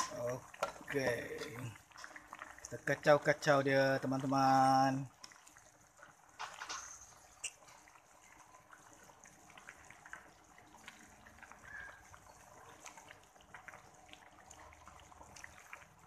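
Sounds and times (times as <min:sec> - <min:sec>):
soup sloshing: 0:00.0 - 0:16.0.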